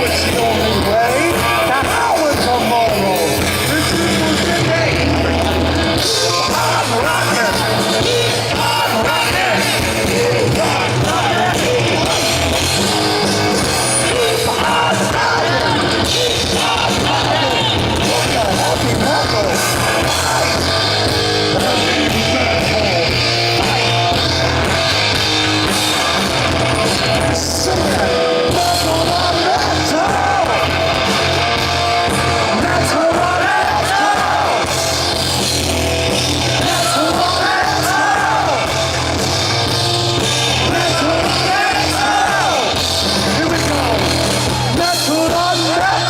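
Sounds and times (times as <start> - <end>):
heavy metal band playing: 0.0 - 46.0.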